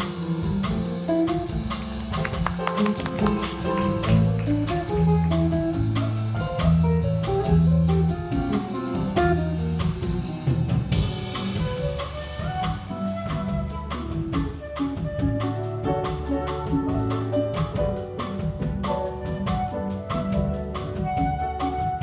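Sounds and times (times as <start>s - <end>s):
bass guitar: 0.0s - 22.0s
drum kit cymbals: 0.0s - 22.0s
guitar: 0.0s - 22.0s.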